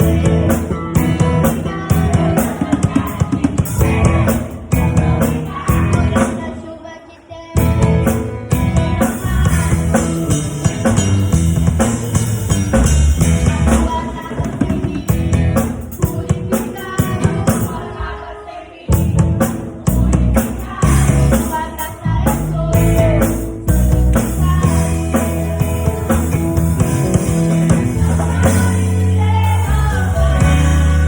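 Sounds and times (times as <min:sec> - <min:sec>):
drum kit playing: 0:00.0 - 0:06.6, 0:07.6 - 0:18.0, 0:18.9 - 0:31.0
rock worship song with singing: 0:00.0 - 0:31.0.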